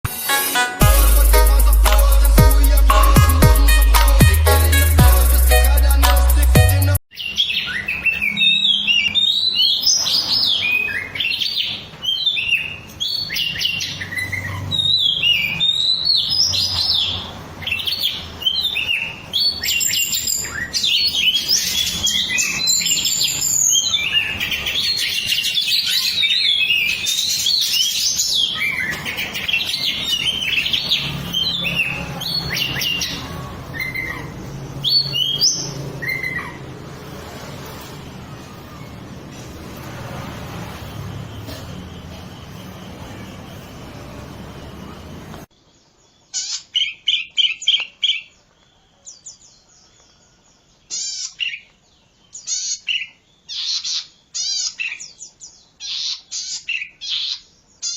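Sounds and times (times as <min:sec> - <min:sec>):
songbird singing: 0:00.9 - 0:36.9, 0:41.3 - 0:57.9.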